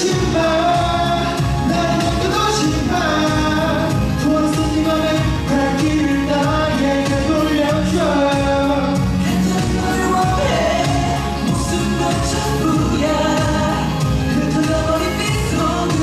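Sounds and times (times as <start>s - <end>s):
backing track: 0.0s - 16.0s
man singing into microphone: 0.0s - 16.0s.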